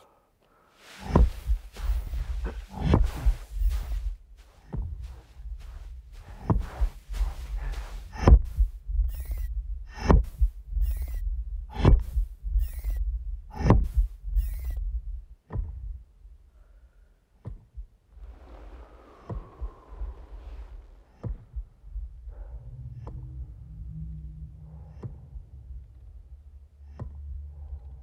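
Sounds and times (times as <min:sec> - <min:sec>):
deep rhythmic thuds: 0:00.9 - 0:16.4, 0:17.4 - 0:27.8.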